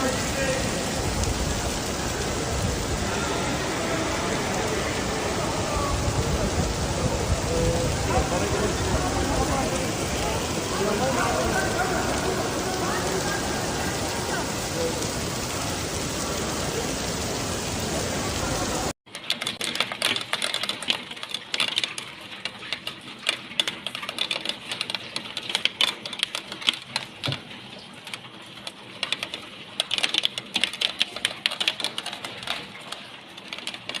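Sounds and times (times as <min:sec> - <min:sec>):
heavy rain downpour: 0:00.0 - 0:34.0.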